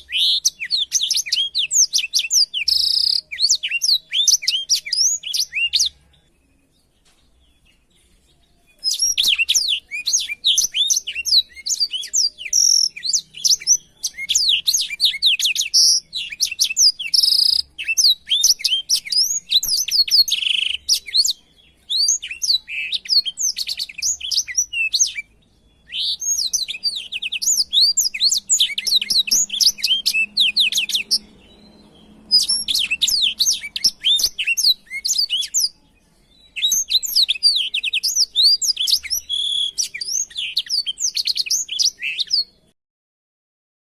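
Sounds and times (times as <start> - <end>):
bird singing high twittering: 0.0 - 42.8.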